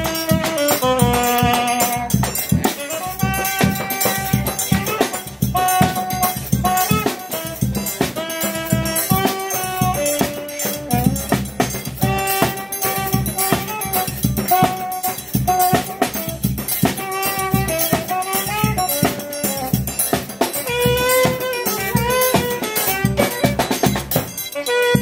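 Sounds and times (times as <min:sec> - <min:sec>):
saxophone melody: 0:00.0 - 0:25.0
small band playing: 0:00.0 - 0:25.0
snare drum and cymbal beat: 0:00.0 - 0:25.0.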